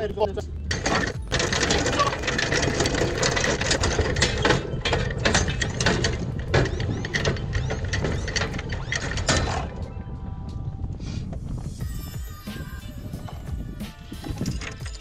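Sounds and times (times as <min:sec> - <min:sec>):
anchor chain rattling and clanking: 0:00.6 - 0:09.8, 0:11.8 - 0:15.0.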